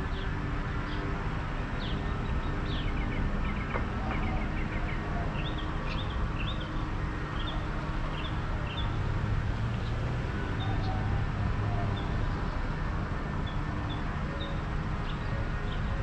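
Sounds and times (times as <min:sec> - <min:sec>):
birds chirping: 0:00.0 - 0:16.0
low rumble of street traffic: 0:00.0 - 0:16.0.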